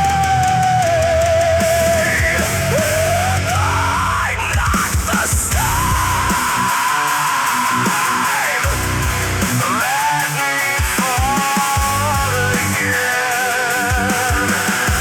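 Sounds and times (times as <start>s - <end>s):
bass: 0.0s - 15.0s
distorted guitars: 0.0s - 15.0s
drums: 0.0s - 15.0s.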